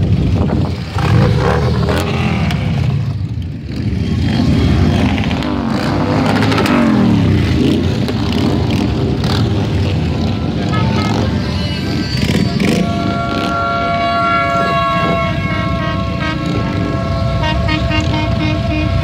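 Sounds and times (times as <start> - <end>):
motorcycles riding past: 0.1 - 19.0.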